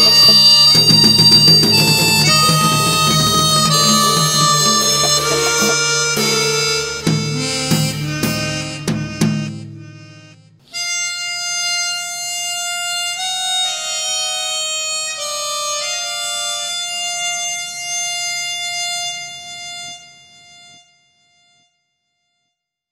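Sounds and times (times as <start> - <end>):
slow melody of held notes: 0.0 - 21.7.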